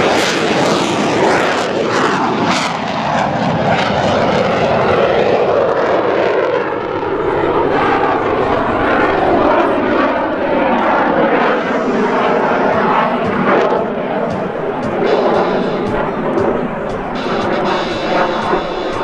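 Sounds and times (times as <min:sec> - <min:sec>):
radial engine and propeller: 0:00.0 - 0:19.0
turbojet roar: 0:00.0 - 0:19.0.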